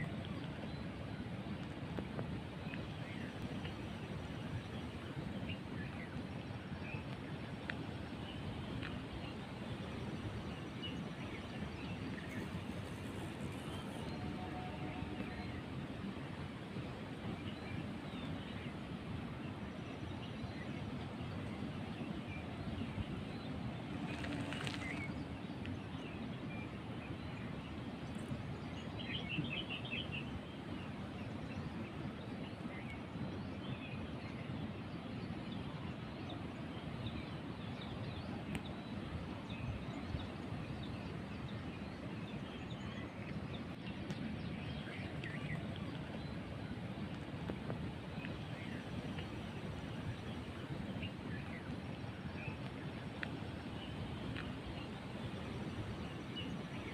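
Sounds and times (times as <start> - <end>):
steady background hiss: 0.0 - 56.9.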